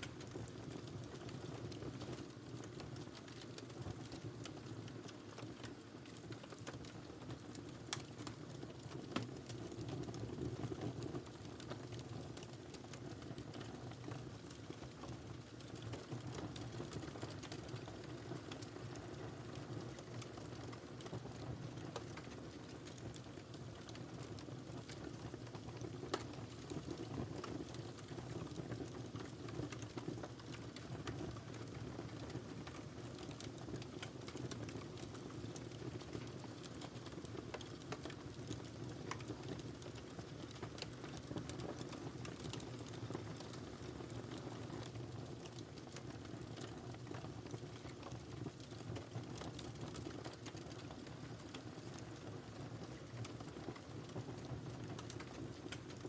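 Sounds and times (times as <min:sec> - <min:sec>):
fire burning in fireplace: 0:00.0 - 0:56.0
fire crackling and popping: 0:00.0 - 0:56.0.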